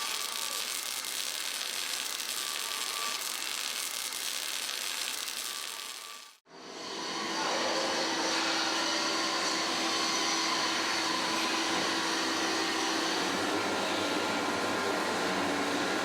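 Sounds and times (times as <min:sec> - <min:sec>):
steady hissing machine noise: 0:00.0 - 0:16.0.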